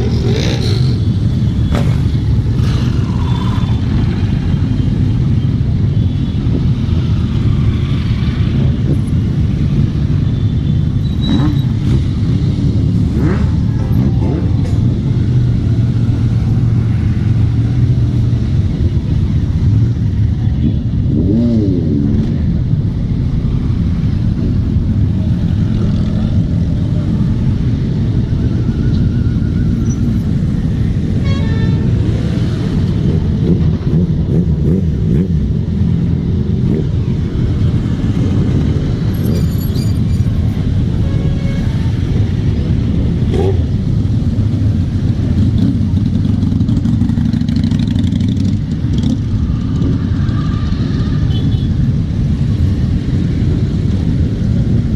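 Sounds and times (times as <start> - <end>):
motorcycle engines rumbling: 0.0 - 54.9.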